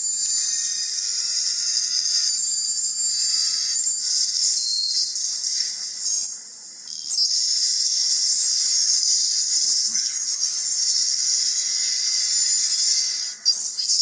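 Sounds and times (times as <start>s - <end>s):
high-pitched recording hiss: 0.0s - 14.0s.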